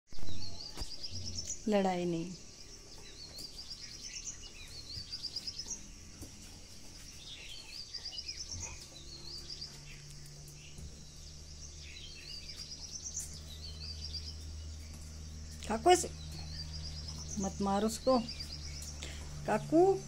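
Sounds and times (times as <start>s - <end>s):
low steady hum: 0.2s - 20.0s.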